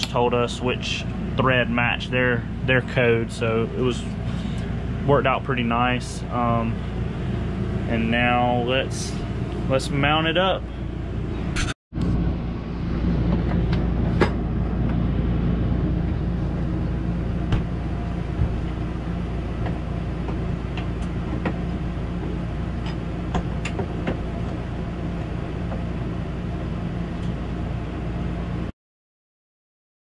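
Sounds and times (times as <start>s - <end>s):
appliance humming: 0.0s - 28.7s.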